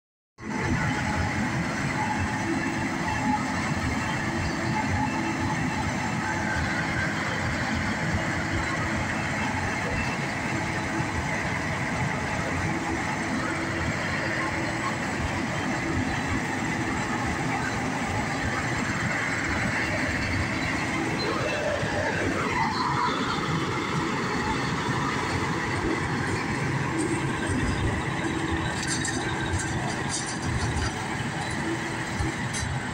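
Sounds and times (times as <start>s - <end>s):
forage harvester running: 0.4s - 32.9s
tractor running: 0.4s - 32.9s
truck engine: 0.4s - 32.9s.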